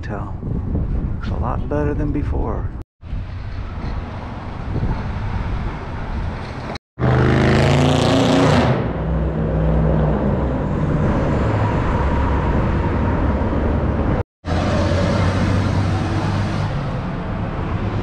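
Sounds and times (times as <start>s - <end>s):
hum of city traffic: 0.0s - 18.0s.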